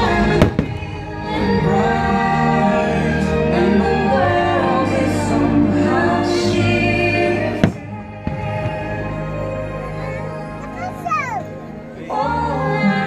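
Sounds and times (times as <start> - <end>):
choir music over loudspeakers: 0.0 - 13.0.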